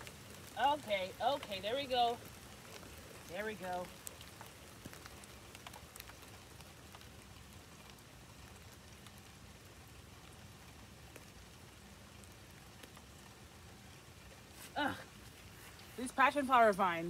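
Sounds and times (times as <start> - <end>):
rain hissing: 0.0 - 17.0
raindrops ticking: 0.0 - 17.0.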